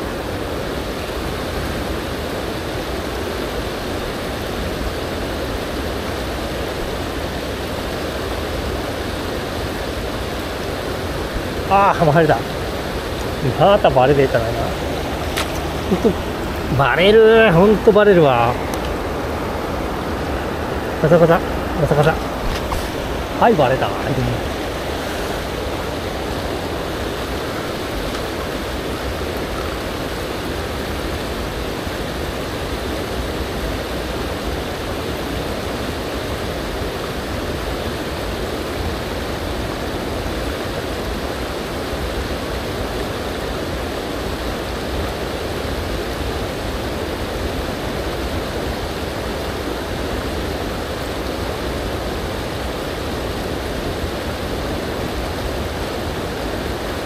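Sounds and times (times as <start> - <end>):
river water rushing over stones: 0.0 - 57.0.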